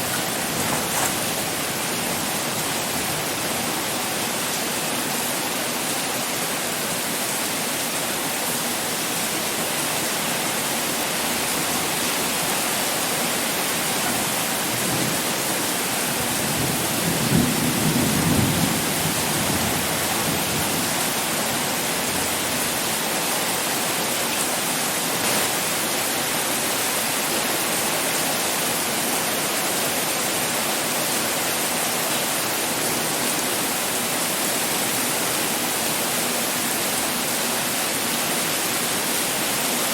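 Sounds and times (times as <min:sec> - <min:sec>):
heavy pouring rain: 0:00.0 - 0:39.9.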